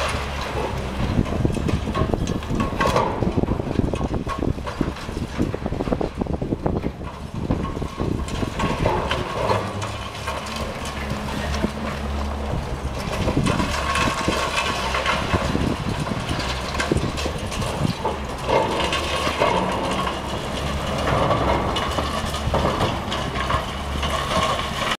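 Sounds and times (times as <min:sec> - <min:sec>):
concrete cracking and crunching: 0:00.0 - 0:25.0
debris falling: 0:00.0 - 0:25.0
diesel excavator engine running: 0:00.0 - 0:25.0.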